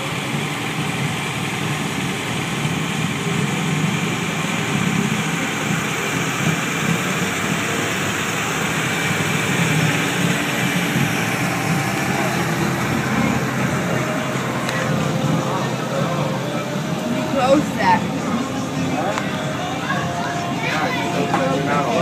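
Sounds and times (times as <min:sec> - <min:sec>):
motorcycle engines idling: 0:00.0 - 0:22.0.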